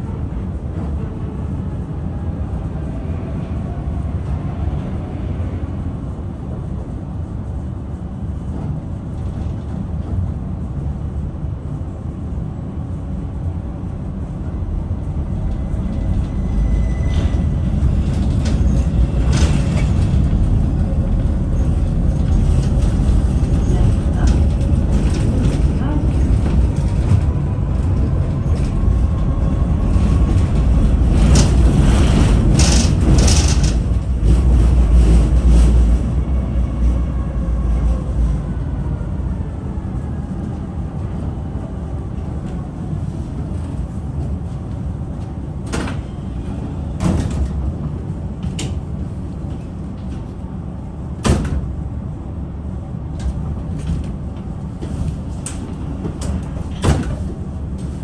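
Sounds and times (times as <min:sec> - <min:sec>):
tram rumbling: 0:00.0 - 0:58.0.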